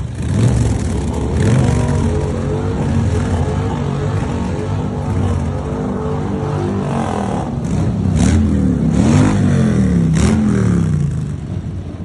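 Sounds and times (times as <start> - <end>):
motorcycle engine revving: 0.0 - 11.6
motorcycle engines running: 0.0 - 12.0.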